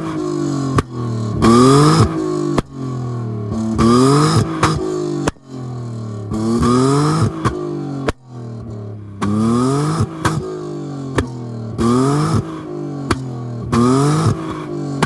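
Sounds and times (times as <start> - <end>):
car exhaust revving: 0.0 - 15.0
exhaust cracks: 0.1 - 15.0.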